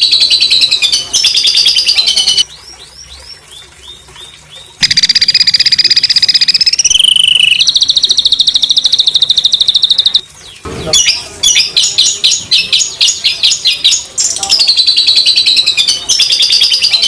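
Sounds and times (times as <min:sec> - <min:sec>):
songbird singing trills and chirps: 0:00.0 - 0:17.0.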